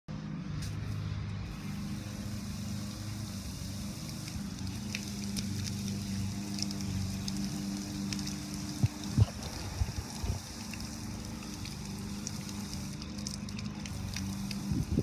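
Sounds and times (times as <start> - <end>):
low mechanical hum: 0.1 - 15.0
spraying water hiss: 0.6 - 15.0
droplets ticking: 2.5 - 15.0.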